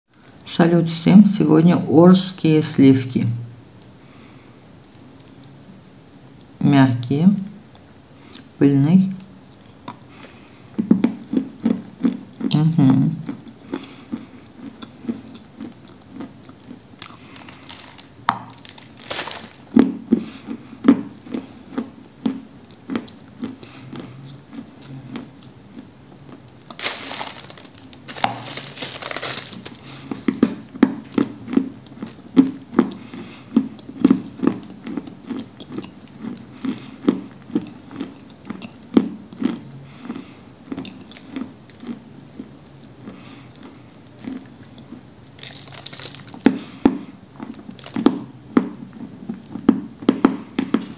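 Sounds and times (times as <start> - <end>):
chewing crunchy clay: 9.1 - 50.9.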